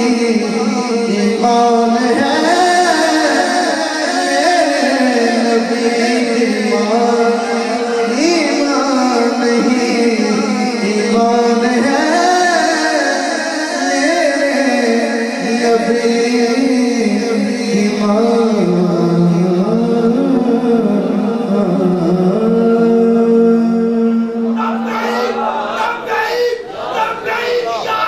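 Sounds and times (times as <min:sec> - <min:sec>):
man singing through microphone: 0:00.0 - 0:25.5.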